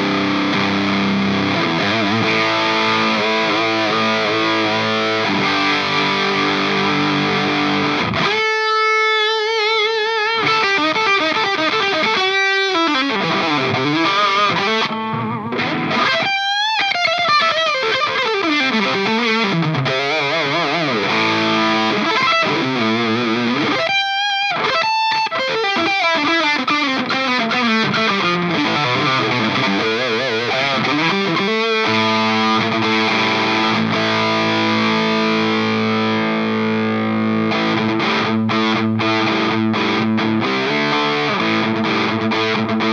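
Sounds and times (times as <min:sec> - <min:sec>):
overdriven electric guitar: 0:00.0 - 0:42.9.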